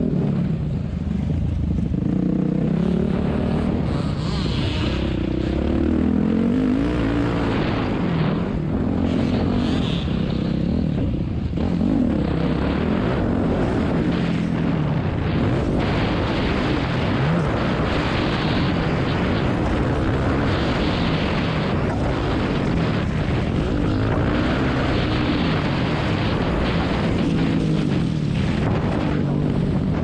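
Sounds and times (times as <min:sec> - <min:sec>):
wind rushing over microphone: 0:00.0 - 0:30.0
dirt bike engine revving: 0:01.3 - 0:30.0.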